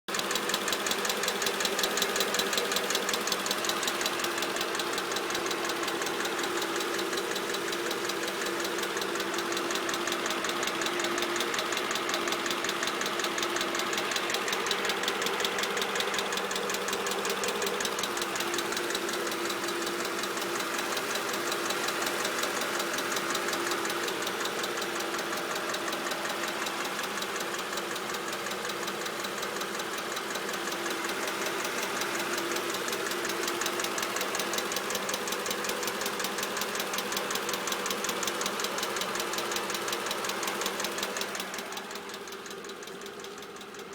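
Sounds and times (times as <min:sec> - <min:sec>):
car engine running: 0:00.1 - 0:43.9
rapid clicking from engine: 0:00.1 - 0:43.9.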